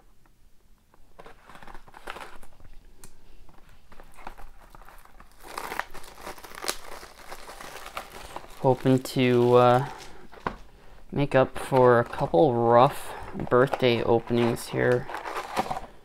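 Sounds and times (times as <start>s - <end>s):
plastic shrink wrap crinkling: 0.9s - 16.0s.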